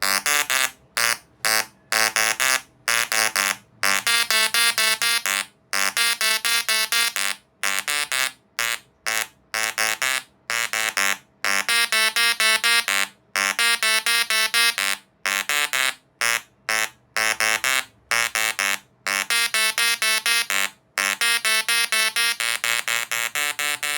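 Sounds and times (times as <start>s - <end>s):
tesla coil buzzing notes: 0.0s - 23.9s.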